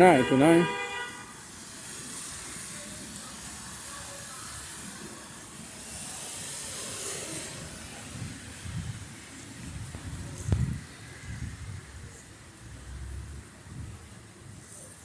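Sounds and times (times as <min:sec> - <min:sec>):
heavy rain falling: 0:01.2 - 0:15.0.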